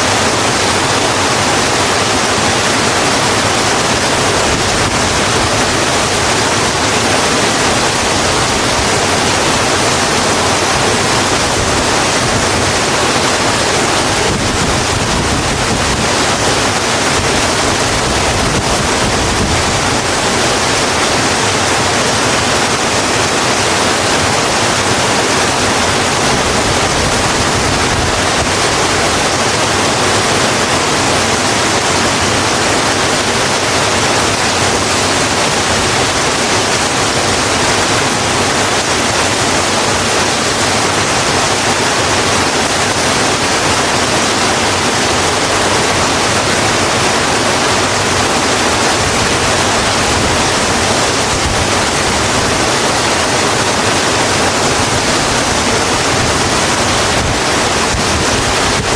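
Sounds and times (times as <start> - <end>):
rain falling on a road: 0.0 - 58.9.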